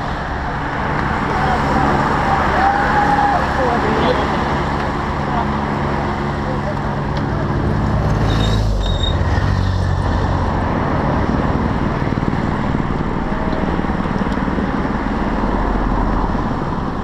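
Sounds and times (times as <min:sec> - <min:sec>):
cars driving past: 0:00.0 - 0:17.0
road noise rushing: 0:00.0 - 0:17.0.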